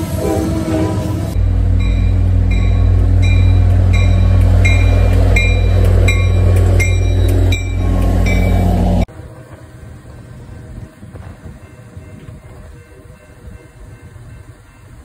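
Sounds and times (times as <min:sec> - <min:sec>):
locomotive bell ringing: 0:00.0 - 0:09.0, 0:10.4 - 0:15.0
diesel locomotive engine drone: 0:00.0 - 0:15.0.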